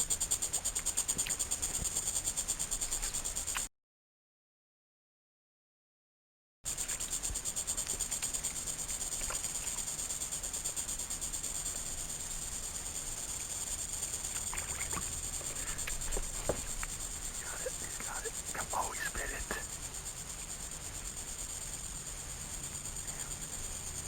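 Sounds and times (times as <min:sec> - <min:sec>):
insects trilling: 0:00.0 - 0:03.7, 0:06.7 - 0:24.0.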